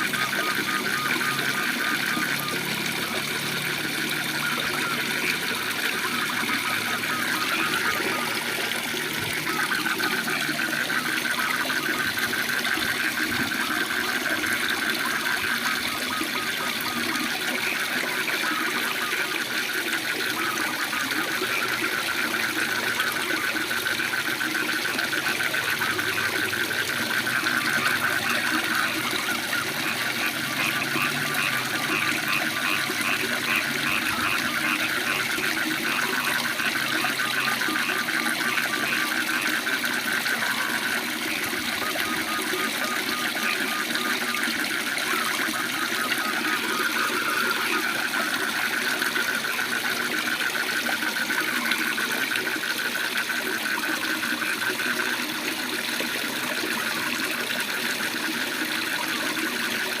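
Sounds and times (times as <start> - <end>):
frogs calling in pulsed trills: 0.0 - 60.0.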